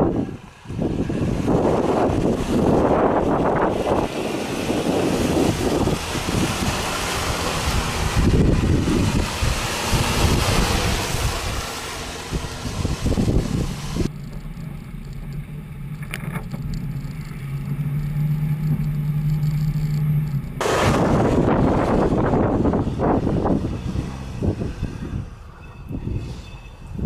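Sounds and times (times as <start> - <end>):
suv engine under load: 0.0 - 27.0
wind buffeting microphone: 0.0 - 27.0
tyres in mud: 0.4 - 27.0.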